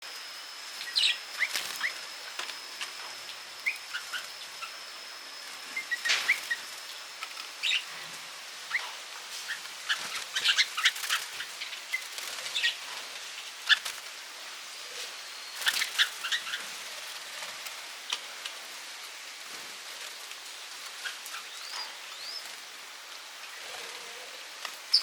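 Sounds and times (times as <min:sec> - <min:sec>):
garden birds chirping: 0:00.7 - 0:19.3, 0:20.2 - 0:25.0.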